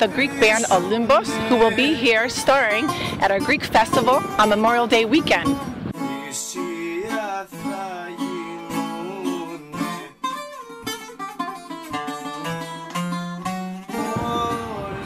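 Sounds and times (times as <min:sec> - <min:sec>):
bouzouki melody: 0:00.0 - 0:15.0.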